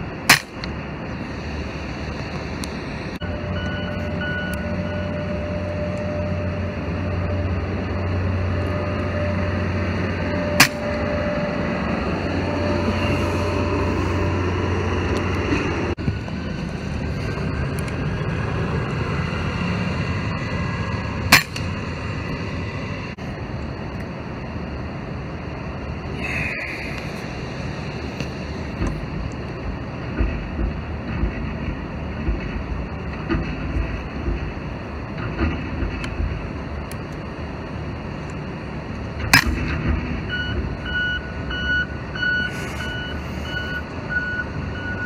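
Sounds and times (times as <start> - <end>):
low mechanical hum: 0.0 - 45.0.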